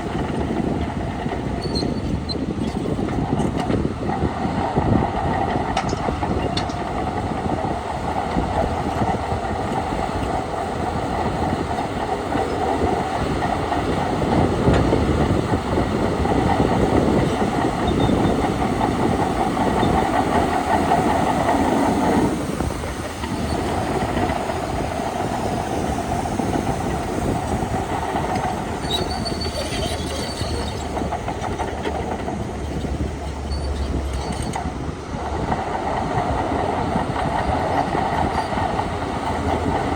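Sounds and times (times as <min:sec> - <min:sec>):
bulldozer diesel engine: 0:00.0 - 0:39.9
steel tracks clattering: 0:00.0 - 0:39.9.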